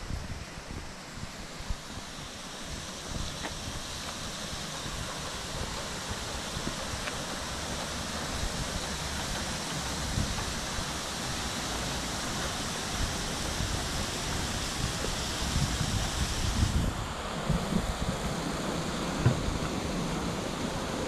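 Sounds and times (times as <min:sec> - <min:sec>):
running water rushing: 0:00.0 - 0:21.0
wind buffeting microphone: 0:02.8 - 0:11.6, 0:12.2 - 0:21.0.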